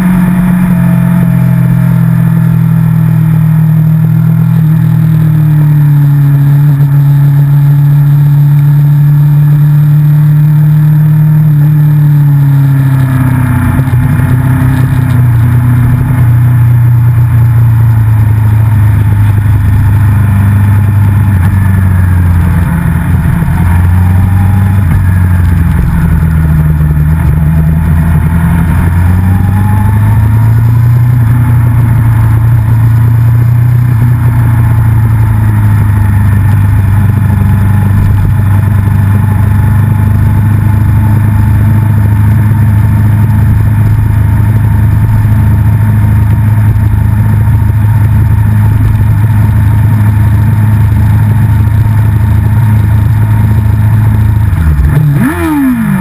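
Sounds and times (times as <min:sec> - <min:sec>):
motorcycle engine at low revs: 0:00.0 - 0:56.0.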